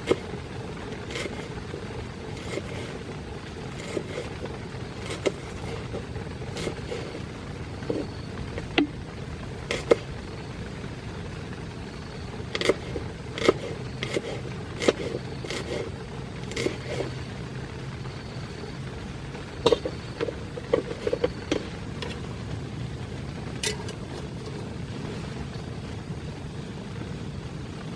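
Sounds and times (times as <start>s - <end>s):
rain hissing on tent fabric: 0.0s - 27.9s.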